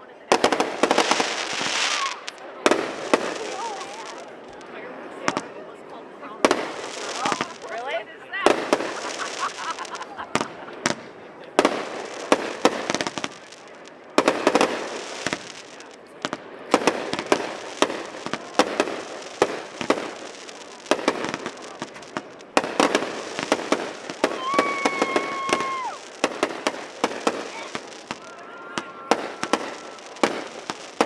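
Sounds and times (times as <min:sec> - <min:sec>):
fireworks bursting: 0:00.0 - 0:31.0
fireworks crackling: 0:00.0 - 0:31.0.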